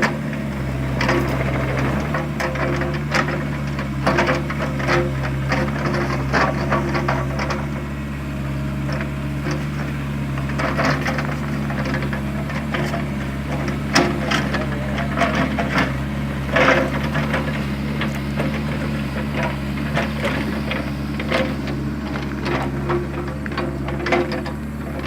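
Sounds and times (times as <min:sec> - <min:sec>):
digging knocks and clanks: 0:00.0 - 0:25.0
excavator diesel engine running: 0:00.0 - 0:25.0.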